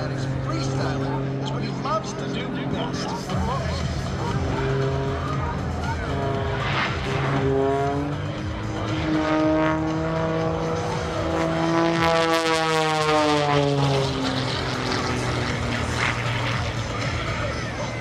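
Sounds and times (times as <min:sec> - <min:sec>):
biplane engine and propeller: 0:00.0 - 0:18.0.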